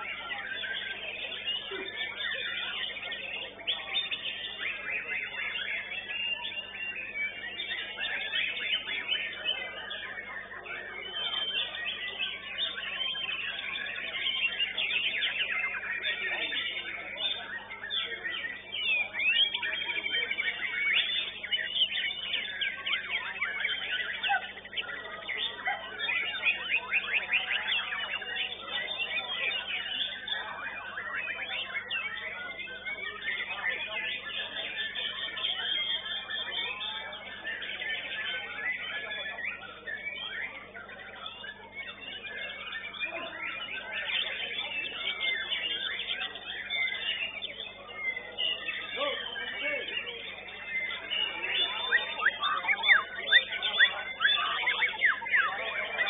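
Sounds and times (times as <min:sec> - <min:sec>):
bird singing whistles: 0:00.0 - 0:56.0.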